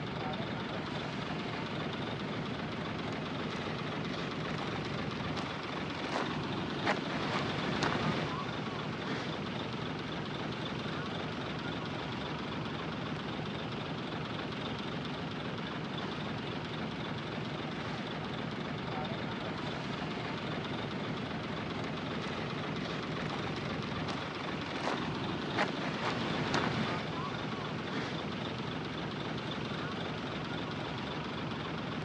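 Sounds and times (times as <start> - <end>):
diesel construction machinery running: 0.0 - 32.0.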